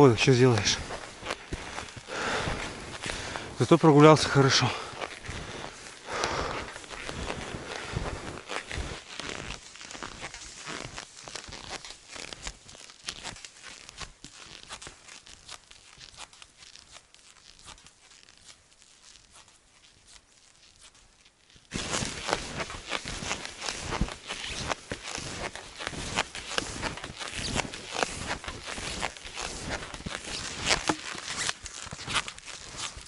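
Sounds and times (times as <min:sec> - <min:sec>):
loud close skis crunching snow: 0:00.0 - 0:33.0
skis crunching through snow: 0:00.0 - 0:33.0.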